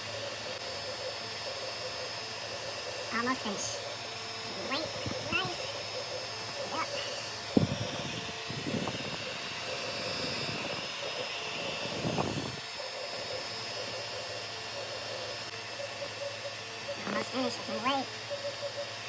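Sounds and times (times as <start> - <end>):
printer motors and fans whirring: 0.0 - 19.0.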